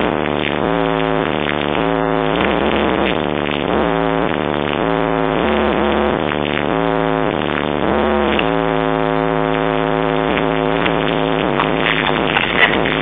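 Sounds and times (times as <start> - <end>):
electronic music from car stereo: 0.0 - 13.0
heavy bass: 0.0 - 13.0.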